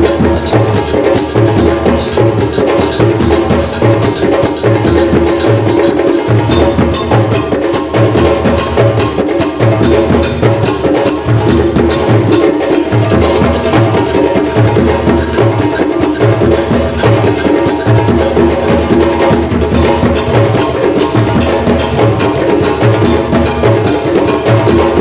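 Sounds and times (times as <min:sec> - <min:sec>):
djembes struck by hand: 0:00.0 - 0:25.0
tall drum beaten with sticks: 0:00.0 - 0:25.0.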